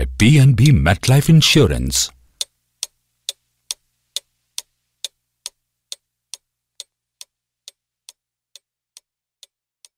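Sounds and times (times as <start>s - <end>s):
clock ticking: 0.0s - 9.9s.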